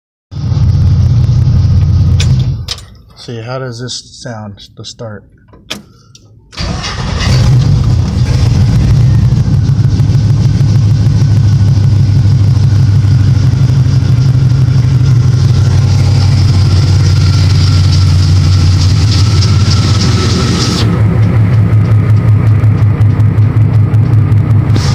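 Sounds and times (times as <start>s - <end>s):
vehicle engine starting and idling: 0.4s - 3.3s, 5.5s - 24.9s.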